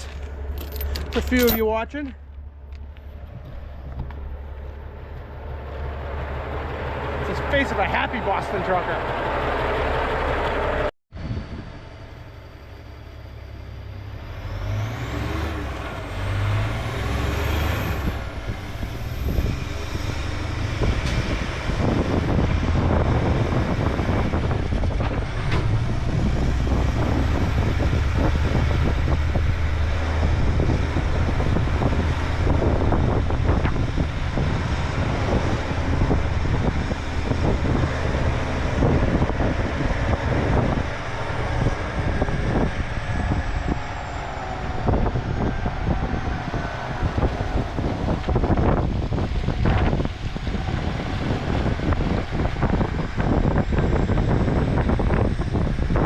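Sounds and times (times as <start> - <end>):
heavy diesel truck engine: 0.0 - 56.0
road noise: 0.0 - 56.0.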